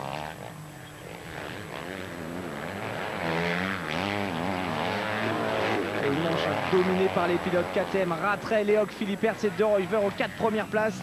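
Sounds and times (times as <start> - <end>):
motocross bike engines racing: 0.0 - 11.0.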